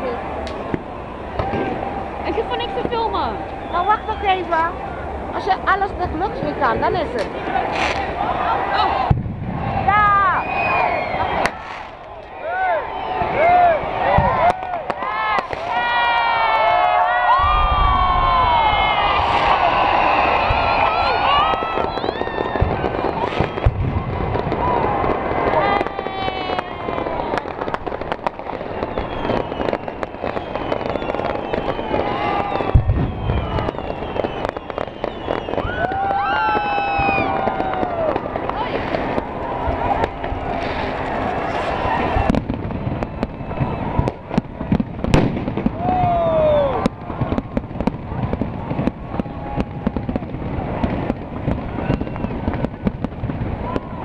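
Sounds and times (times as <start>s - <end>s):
fireworks cracking and popping: 0.0s - 54.0s
whistling rockets: 0.4s - 4.7s, 6.3s - 54.0s
heavy firework boom: 0.6s - 8.2s, 9.0s - 12.2s, 17.2s - 54.0s.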